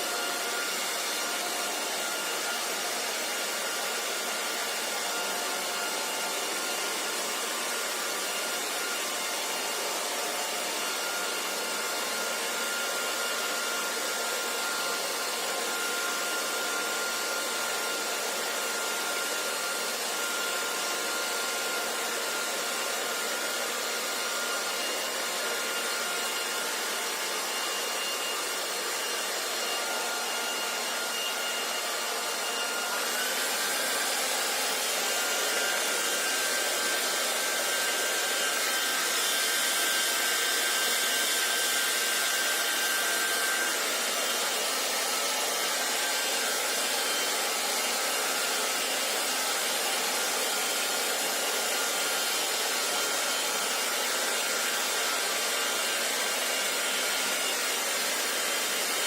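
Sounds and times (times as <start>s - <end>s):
hair dryer blowing: 0.0s - 59.0s.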